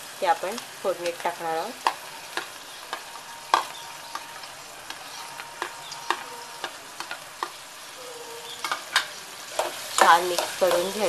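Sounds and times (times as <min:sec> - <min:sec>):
faint oil sizzle: 0:00.0 - 0:11.0.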